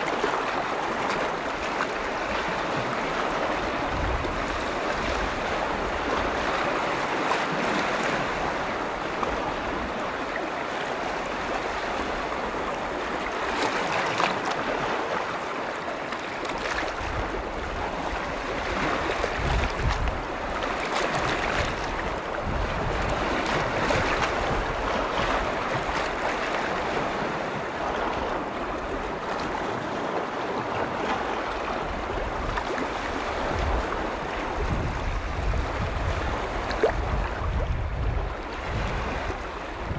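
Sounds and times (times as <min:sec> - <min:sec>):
wind rumbling on microphone: 0:00.0 - 0:15.4, 0:16.5 - 0:39.9
waves washing against shore: 0:00.0 - 0:39.9.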